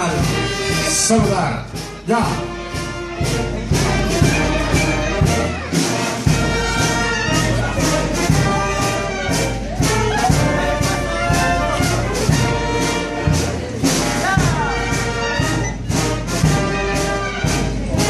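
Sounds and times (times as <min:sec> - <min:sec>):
brass band playing a march: 0:00.0 - 0:18.0
steady drum beat: 0:00.0 - 0:18.0.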